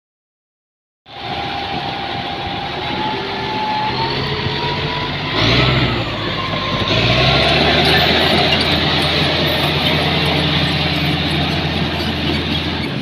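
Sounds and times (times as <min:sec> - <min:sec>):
bulldozer diesel engine revving: 0:01.2 - 0:13.0.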